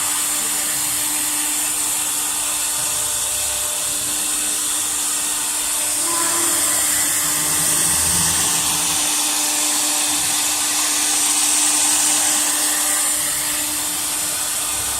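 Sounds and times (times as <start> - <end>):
router spindle whining: 0.0 - 14.9.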